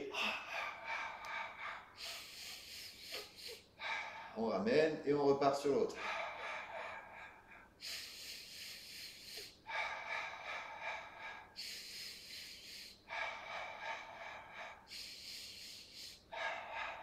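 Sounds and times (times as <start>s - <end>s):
man breathing loudly: 0.0s - 5.0s, 5.6s - 17.0s.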